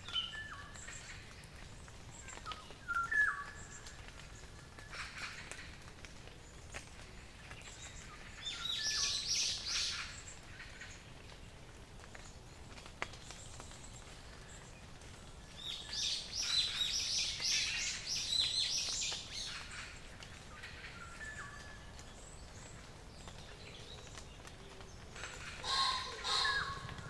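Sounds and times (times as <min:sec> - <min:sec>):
songbirds singing: 0:00.0 - 0:11.3, 0:12.4 - 0:27.0.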